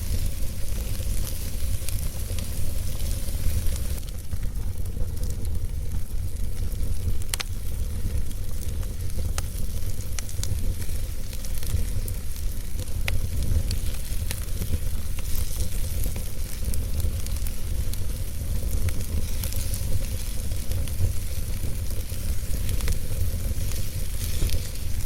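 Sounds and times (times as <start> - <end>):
burning logs crackling and popping: 0.0 - 25.0
fire flames rumbling: 0.0 - 25.0.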